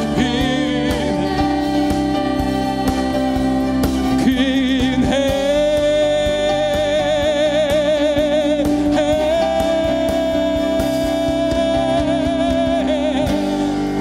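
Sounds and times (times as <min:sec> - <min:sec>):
acoustic guitar: 0:00.0 - 0:14.0
bass: 0:00.0 - 0:14.0
drums: 0:00.0 - 0:14.0
man and woman singing: 0:00.0 - 0:14.0.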